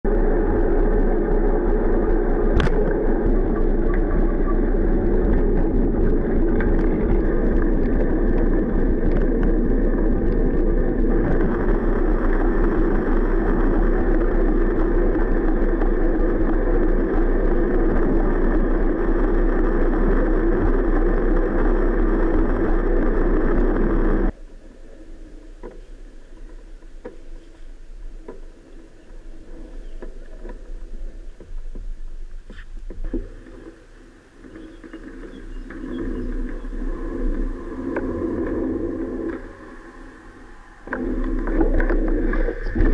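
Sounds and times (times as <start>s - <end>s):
bicycle tyre noise: 0.0s - 42.9s
wind noise on microphone: 0.0s - 42.9s.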